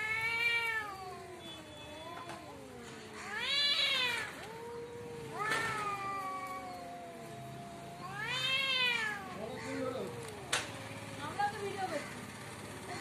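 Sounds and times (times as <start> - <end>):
cats yowling: 0.0 - 12.2.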